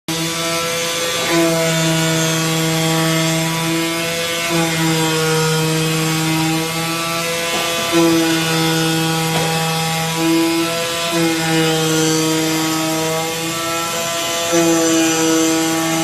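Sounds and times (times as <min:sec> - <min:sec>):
cutter motor hum: 0:00.1 - 0:16.0.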